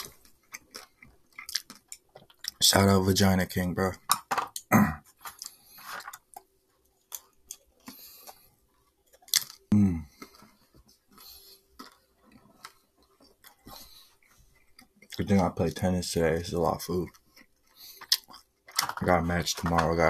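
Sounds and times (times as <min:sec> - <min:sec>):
person chewing food: 0:00.0 - 0:02.6, 0:04.0 - 0:20.0.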